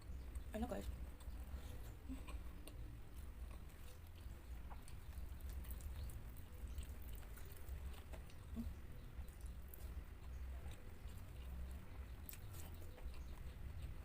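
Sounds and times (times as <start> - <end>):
chewing leafy greens: 0.0 - 14.0.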